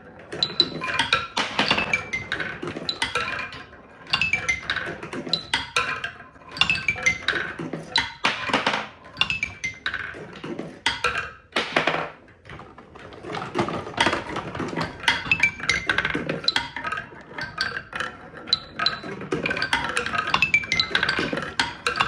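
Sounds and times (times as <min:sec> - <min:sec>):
marbles clattering down track: 0:00.2 - 0:22.0.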